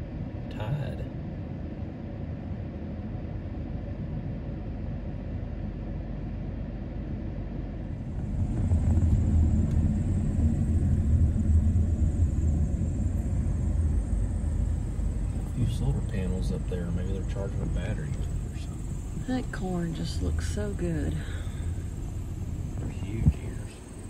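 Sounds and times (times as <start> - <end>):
car engine rumbling: 0.0 - 24.0
faint high whine: 0.0 - 24.0.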